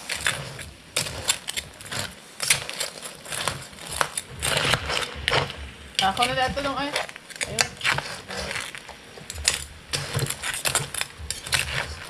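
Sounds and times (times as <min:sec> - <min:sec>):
metal spatula scraping crab shells: 0:00.0 - 0:12.0.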